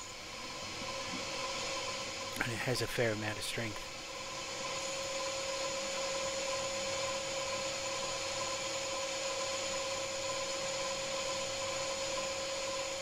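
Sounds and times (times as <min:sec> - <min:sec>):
lathe machine whine: 0:00.0 - 0:13.0.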